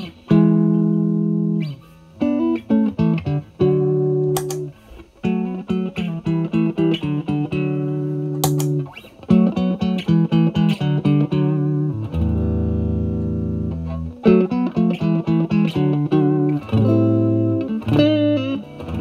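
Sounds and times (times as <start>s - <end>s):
overdriven electric guitar notes: 0.0s - 19.0s.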